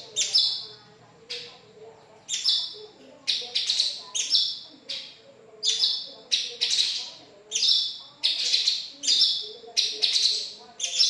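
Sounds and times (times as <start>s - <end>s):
songbird chirps and whistles: 0.0s - 11.0s.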